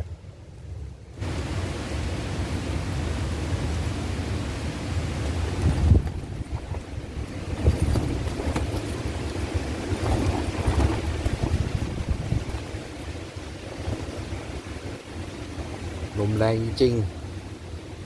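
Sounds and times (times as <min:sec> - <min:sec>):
gusting wind on microphone: 0:01.1 - 0:18.0.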